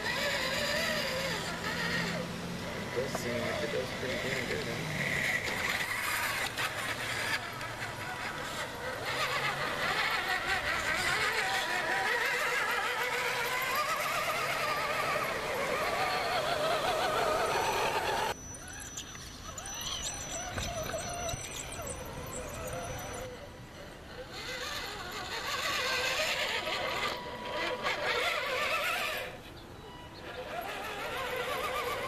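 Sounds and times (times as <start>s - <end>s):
electric motor and gearbox whine: 0.0s - 32.0s.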